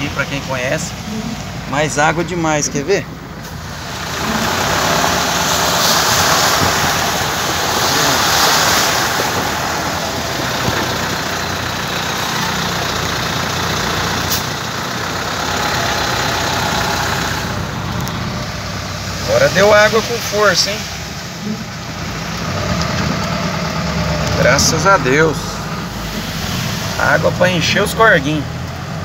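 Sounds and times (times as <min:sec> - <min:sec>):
vehicle engine running low: 0:00.0 - 0:29.0
floodwater rushing and splashing: 0:03.6 - 0:29.0
heavy rain: 0:03.6 - 0:29.0.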